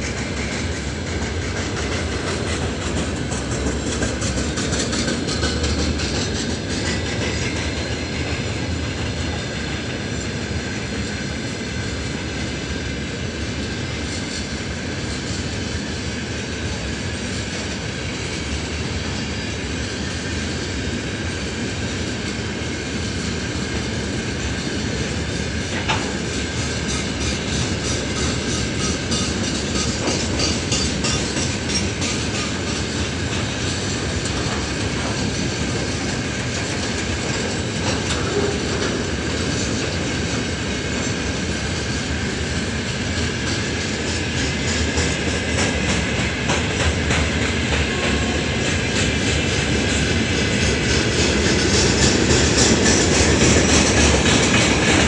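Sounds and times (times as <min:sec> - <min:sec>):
freight train rumbling past: 0:00.0 - 0:55.0
wheels clickety-clack on rail joints: 0:00.0 - 0:55.0.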